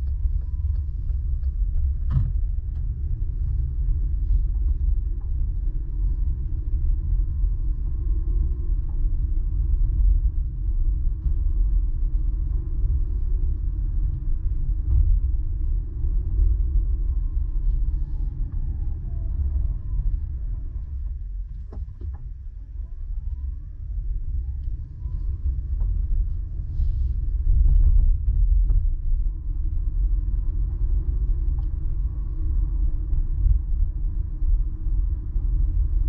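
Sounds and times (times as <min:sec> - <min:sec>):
car driving interior rumble: 0:00.0 - 0:36.0.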